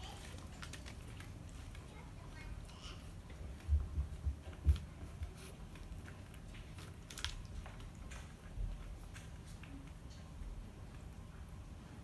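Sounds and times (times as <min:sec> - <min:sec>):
cats chewing food: 0:00.0 - 0:12.0.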